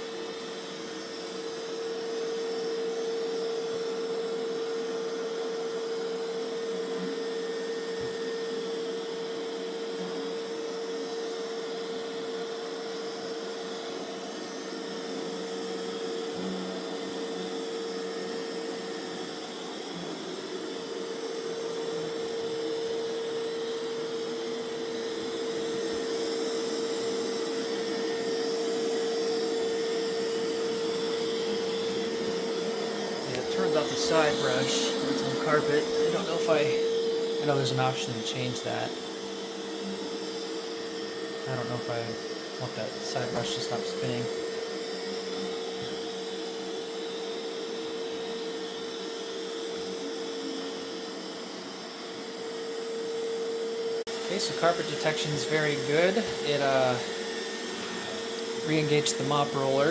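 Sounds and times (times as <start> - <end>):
robot vacuum running on carpet: 0.0 - 59.9.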